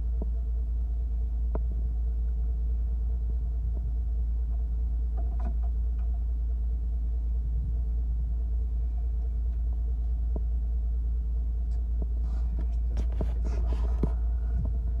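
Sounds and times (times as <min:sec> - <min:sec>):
boat engine rumbling: 0:00.0 - 0:15.0
faint steady hum: 0:00.0 - 0:15.0.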